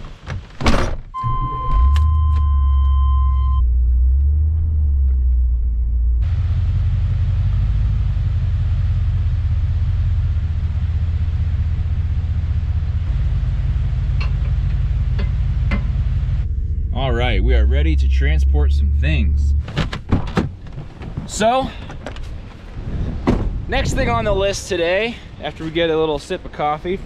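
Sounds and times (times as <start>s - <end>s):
truck engine rumble inside cab: 0.0s - 25.6s.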